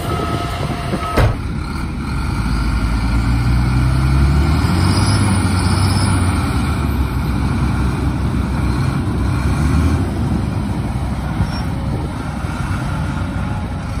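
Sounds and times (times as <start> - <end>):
heavy diesel engines rumbling: 0.0 - 14.0.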